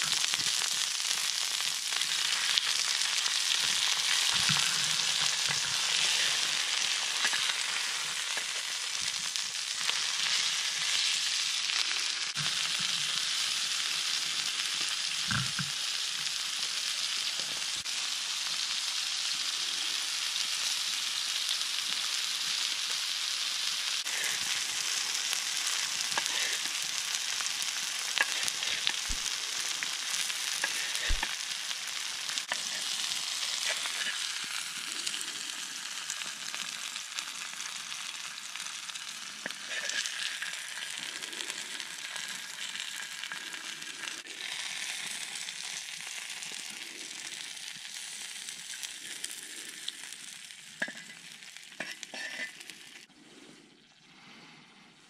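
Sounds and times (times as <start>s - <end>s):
food sizzling in a frying pan: 0.0s - 53.1s.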